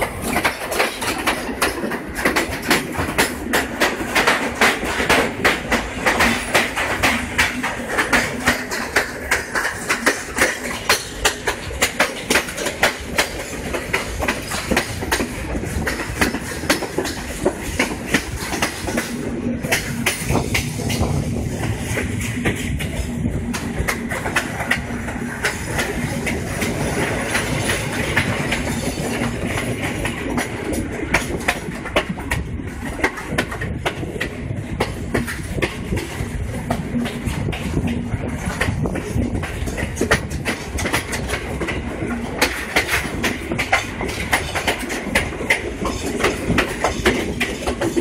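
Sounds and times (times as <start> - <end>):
wheels clattering over rail joints: 0.0 - 48.0.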